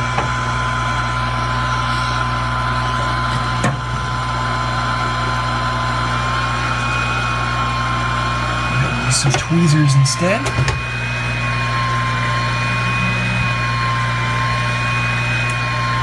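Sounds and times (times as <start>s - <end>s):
hot-air station whine and hum: 0.0s - 16.0s.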